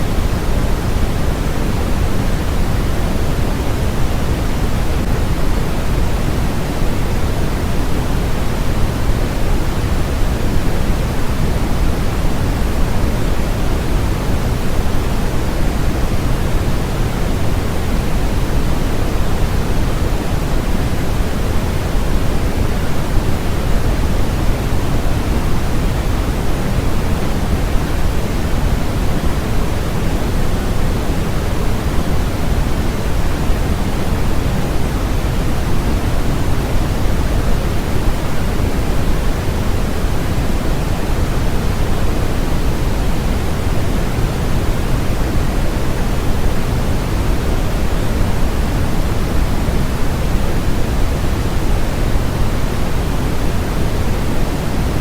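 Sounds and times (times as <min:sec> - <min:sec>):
electronic hiss noise: 0:00.0 - 0:55.0.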